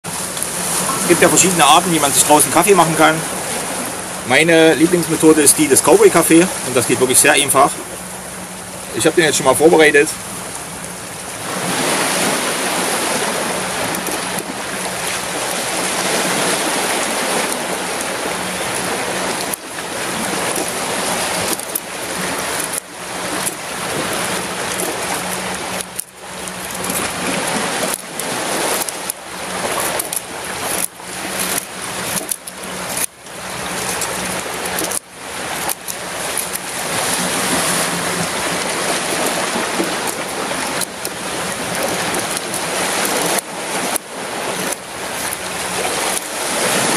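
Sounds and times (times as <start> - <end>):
surf washing on rocky shore: 0.0 - 46.9.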